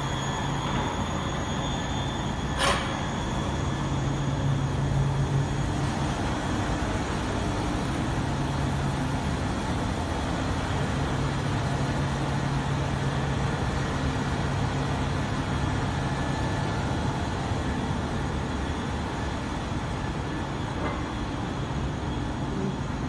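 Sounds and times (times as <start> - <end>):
factory machinery running: 0.0 - 23.0.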